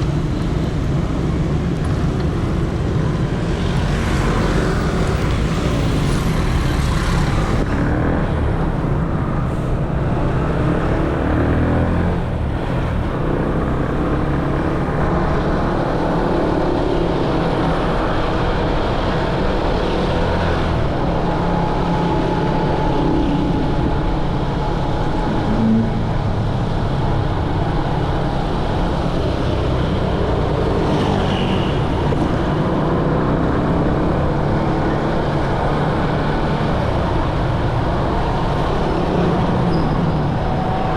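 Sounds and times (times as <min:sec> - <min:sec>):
street traffic of motorbikes: 0:00.0 - 0:40.9.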